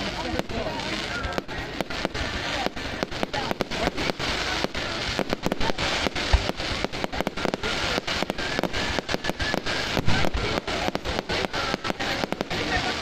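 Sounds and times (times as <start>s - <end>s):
fireworks crackling pops: 0.0s - 13.0s.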